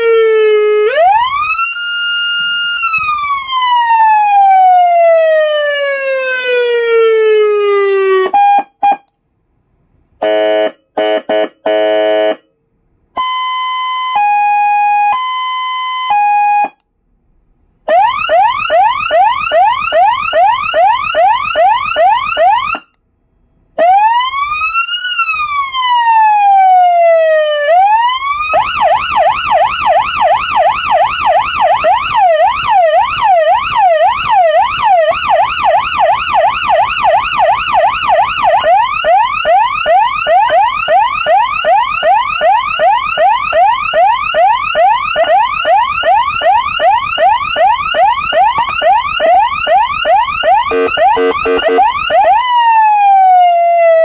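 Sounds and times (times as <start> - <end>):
police siren yelp and wail: 0.0 - 9.0, 13.2 - 16.8, 17.9 - 22.9, 23.8 - 54.0.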